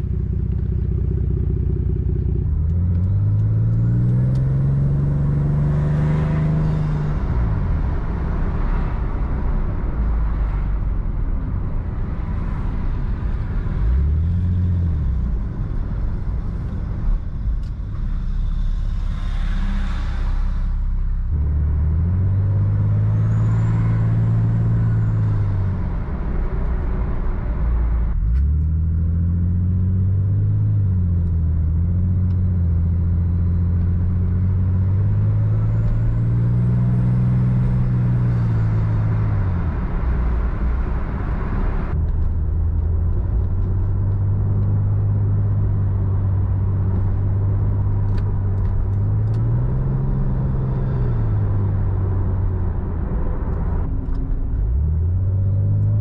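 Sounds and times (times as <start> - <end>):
car engine revving: 0.0 - 10.8, 11.9 - 56.0.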